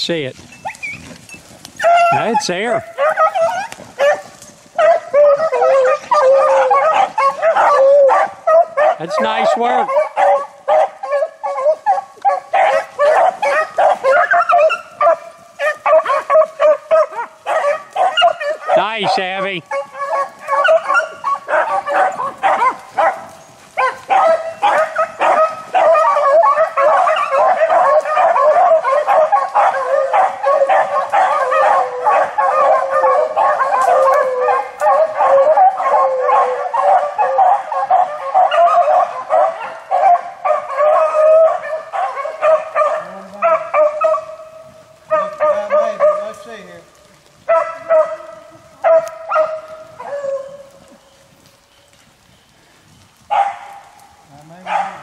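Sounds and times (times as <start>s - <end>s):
dogs baying and yelping: 0.5s - 51.5s, 53.2s - 55.0s.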